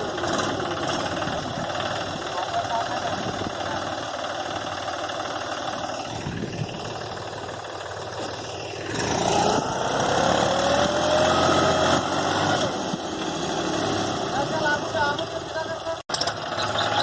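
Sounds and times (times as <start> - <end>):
tractor diesel engine revving: 0.0 - 17.0.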